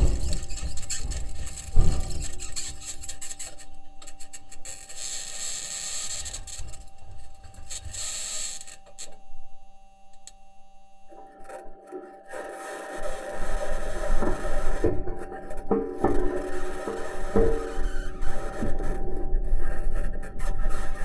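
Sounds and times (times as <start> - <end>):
wheels scraping and rasping: 0.0 - 8.8, 12.4 - 21.0.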